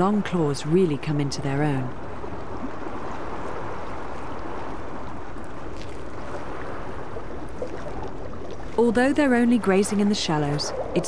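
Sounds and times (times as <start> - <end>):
water rushing against shore: 0.0 - 11.0.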